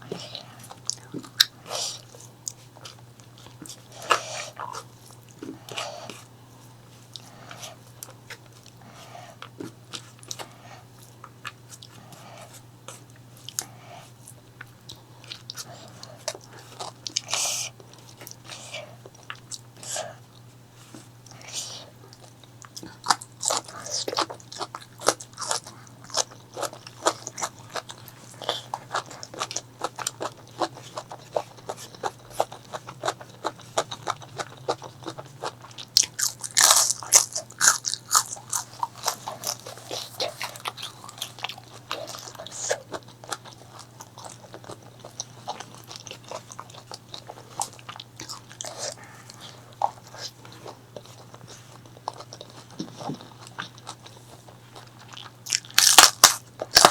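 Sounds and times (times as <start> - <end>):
chewing crunchy food: 0.0 - 56.9
faint low hum: 0.0 - 56.9.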